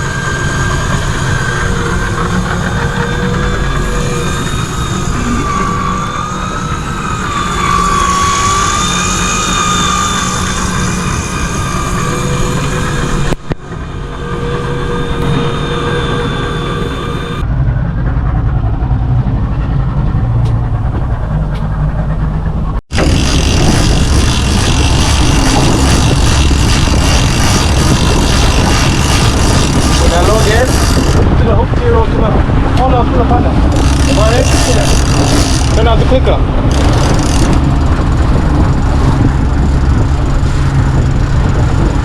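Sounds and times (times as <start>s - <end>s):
boat engine whine and rumble: 0.0s - 42.0s.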